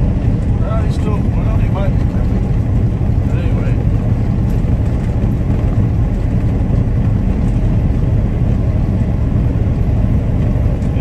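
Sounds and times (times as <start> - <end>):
vehicle engine and tire rumble: 0.0 - 11.0.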